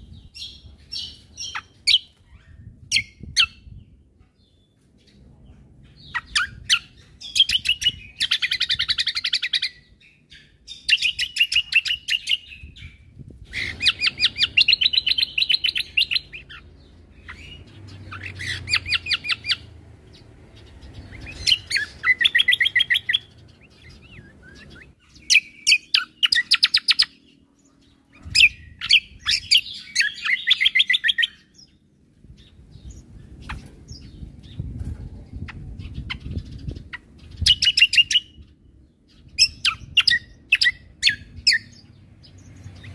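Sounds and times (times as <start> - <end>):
bird singing rapid sharp notes: 5.9 - 42.9.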